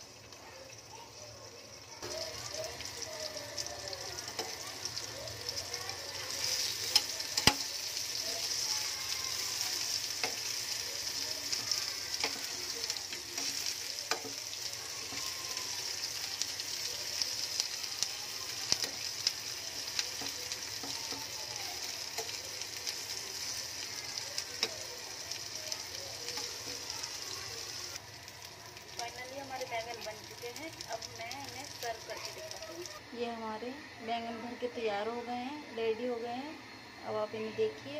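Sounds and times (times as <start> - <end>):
vegetables sizzling in oil: 0.0 - 37.9.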